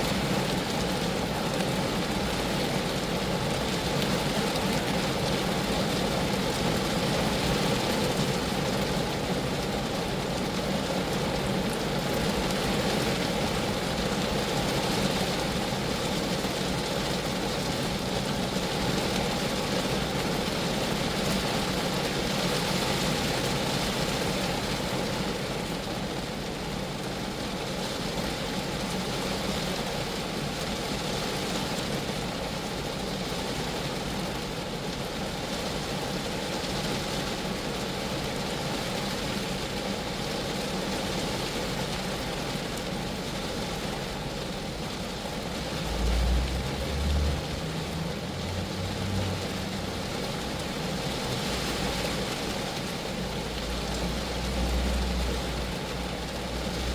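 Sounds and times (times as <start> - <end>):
rain falling on a car body: 0.0 - 56.9.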